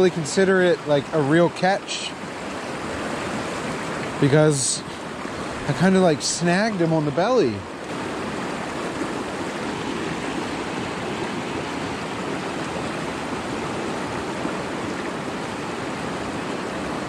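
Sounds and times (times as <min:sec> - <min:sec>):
water rushing over dam: 0:00.0 - 0:17.0.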